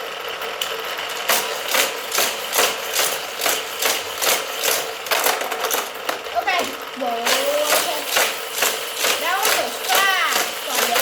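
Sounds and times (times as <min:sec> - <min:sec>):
toy track motor running: 0:00.0 - 0:11.0
regular clatter: 0:00.3 - 0:11.0.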